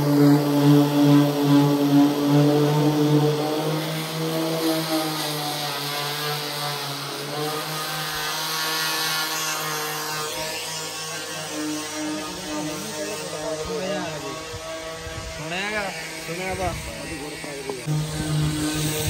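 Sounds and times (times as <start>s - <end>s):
machine humming with hiss: 0.0s - 19.0s.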